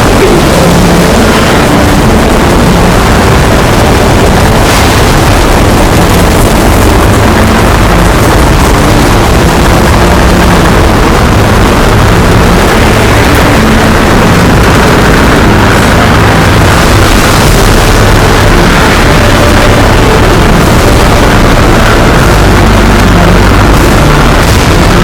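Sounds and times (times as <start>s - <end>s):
loud continuous rumbling: 0.0s - 25.0s.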